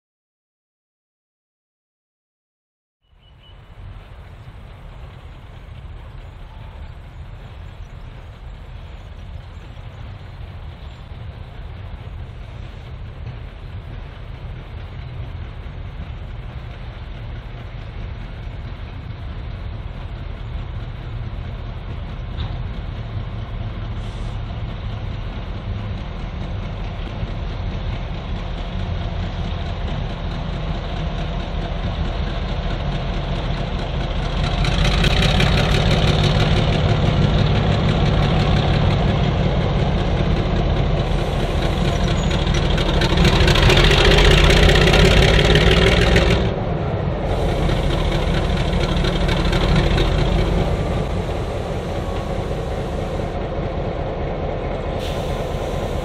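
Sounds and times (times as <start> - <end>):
diesel locomotive engine running: 3.0 - 56.0.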